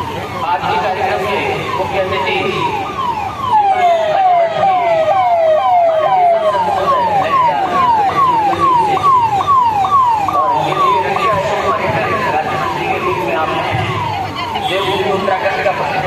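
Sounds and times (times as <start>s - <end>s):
police siren whooping: 0.0s - 16.0s.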